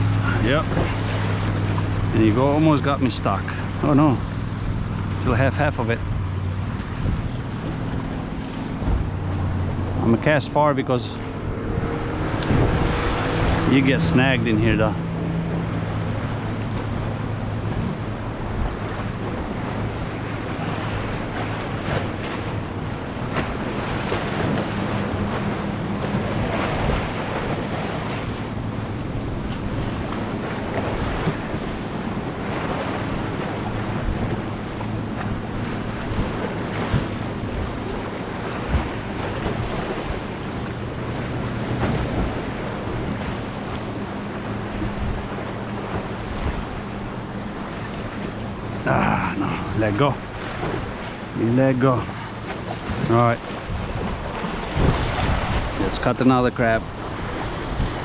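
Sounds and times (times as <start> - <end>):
ocean surf washing: 0.0 - 58.0
wind buffeting the microphone: 4.4 - 10.3, 11.2 - 48.8, 52.1 - 56.0, 56.8 - 58.0.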